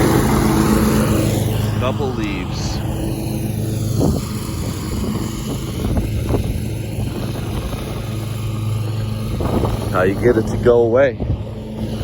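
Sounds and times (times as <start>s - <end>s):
mower deck mulching leaves: 0.0s - 12.0s
mower engine hum: 0.0s - 12.0s.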